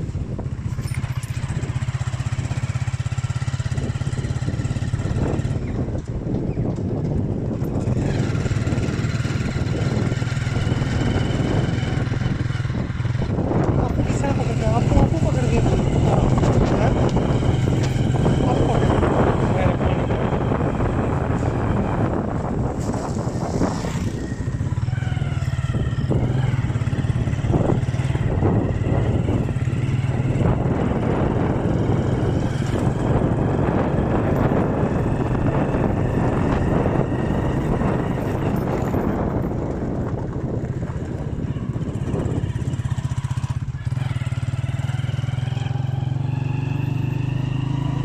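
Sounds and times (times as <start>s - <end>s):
motorcycle engine running: 0.0s - 48.0s
road noise: 0.0s - 48.0s
wind on microphone: 0.0s - 48.0s.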